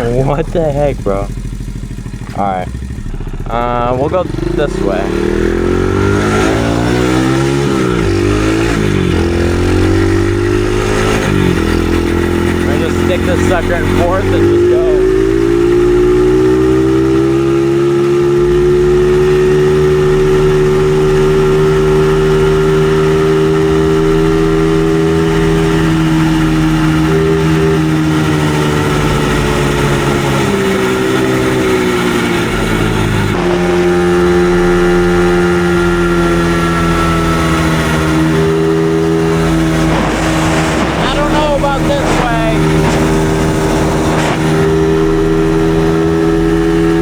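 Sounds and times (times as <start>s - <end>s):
dirt bike engine revving high: 0.0s - 47.0s.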